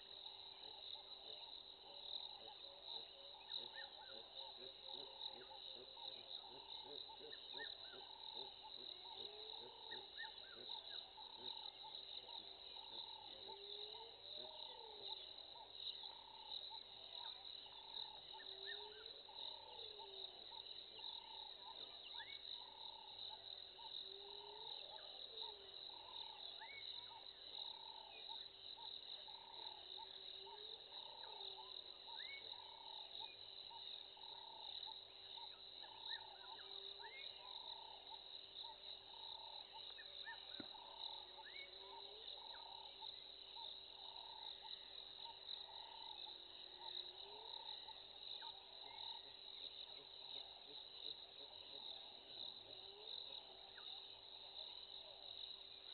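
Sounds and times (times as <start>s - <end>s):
crickets trilling: 0.0s - 55.9s.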